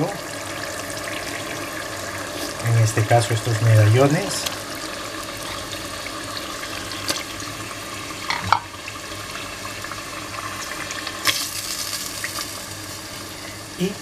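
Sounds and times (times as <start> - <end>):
sauce simmering with a hiss: 0.0 - 14.0.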